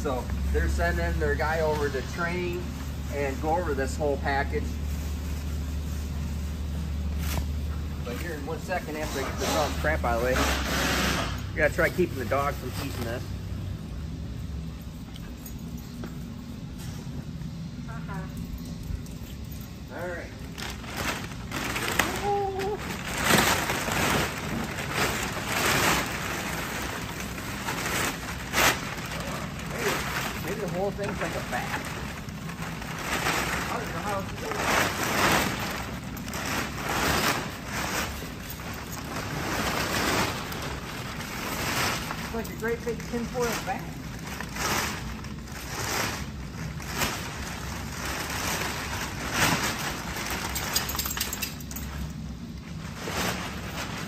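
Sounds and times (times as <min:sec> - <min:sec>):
foil wrapping crinkling: 0:00.0 - 0:11.0, 0:19.2 - 0:54.0.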